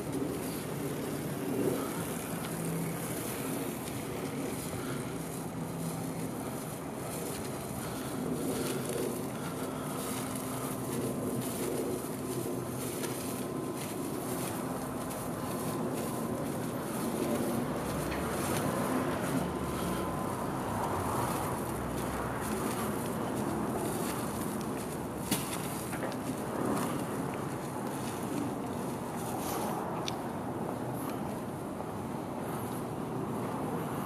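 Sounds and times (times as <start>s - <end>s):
footsteps on pavement: 0.0s - 34.0s
low mechanical hum: 0.0s - 34.0s
street background noise: 0.0s - 34.0s.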